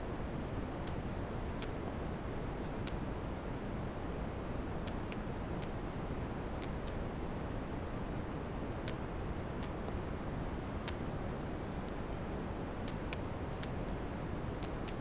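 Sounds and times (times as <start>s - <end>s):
background hiss and low hum: 0.0s - 15.0s.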